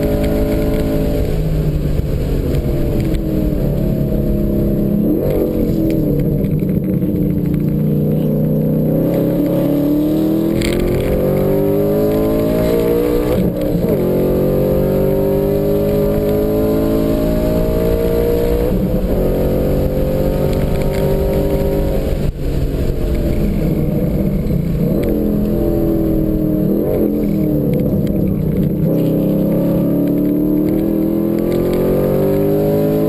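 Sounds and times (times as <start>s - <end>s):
car engine under full throttle: 0.0s - 33.0s
engine revs blipping on downshifts: 0.0s - 33.0s.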